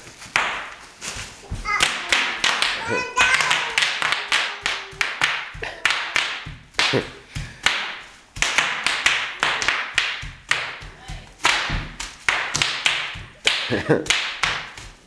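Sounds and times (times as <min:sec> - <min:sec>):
bubble wrap popping: 0:00.0 - 0:15.0.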